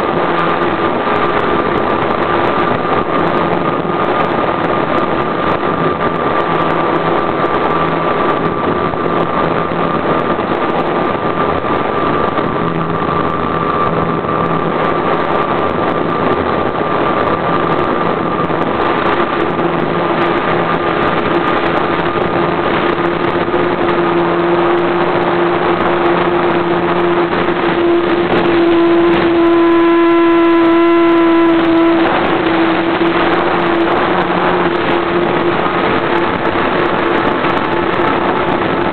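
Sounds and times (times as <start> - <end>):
model airplane engine running: 0.0 - 38.9.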